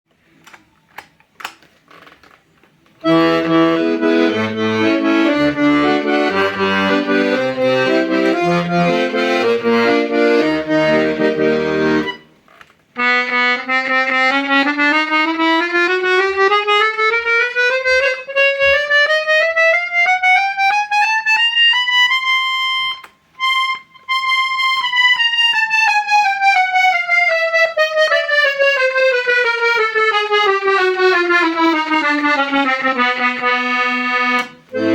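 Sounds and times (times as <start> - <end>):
accordion chords and bass: 3.0 - 34.9
accordion playing a scale: 3.0 - 34.9.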